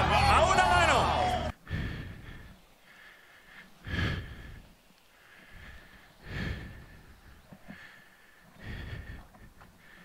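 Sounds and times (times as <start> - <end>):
man breathing hard: 1.5 - 10.0.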